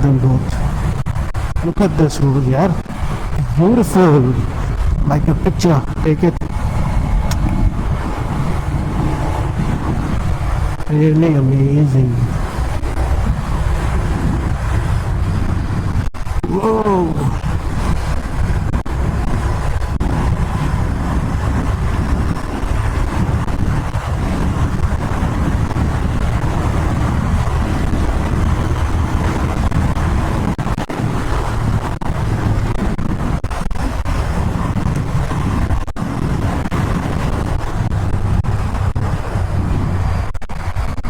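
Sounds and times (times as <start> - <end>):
motorcycle engine at road speed: 0.0 - 41.0
wind rushing over microphone: 0.0 - 41.0.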